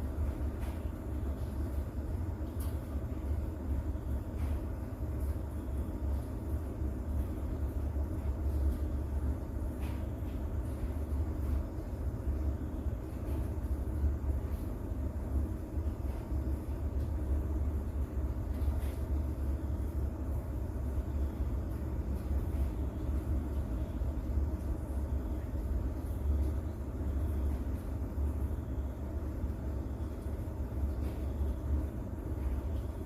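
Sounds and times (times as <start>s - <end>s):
faint hiss of rain: 0.0s - 33.0s.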